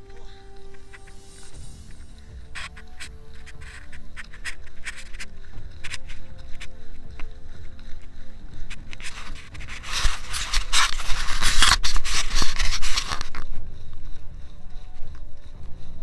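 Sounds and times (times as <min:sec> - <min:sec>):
scraping on camera microphone: 0:00.1 - 0:15.1.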